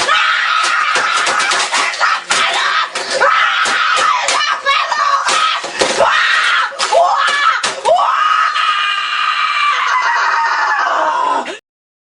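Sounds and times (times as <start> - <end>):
boy screaming: 0.0 - 11.5.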